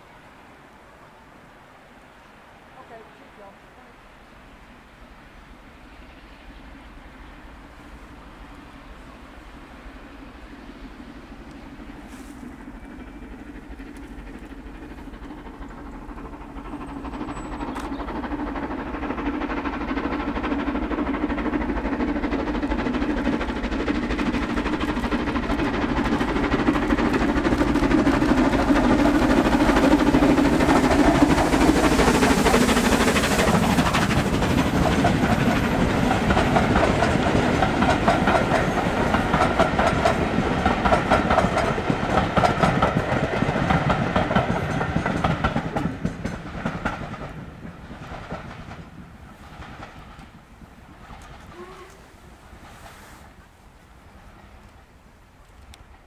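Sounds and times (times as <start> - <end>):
steam locomotive heavy exhaust: 0.0 - 56.0.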